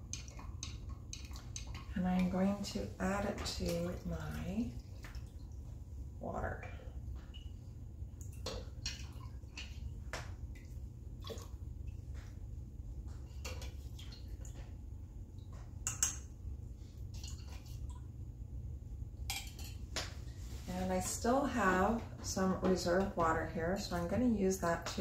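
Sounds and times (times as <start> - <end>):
liquid sloshing and dripping: 0.0 - 20.4.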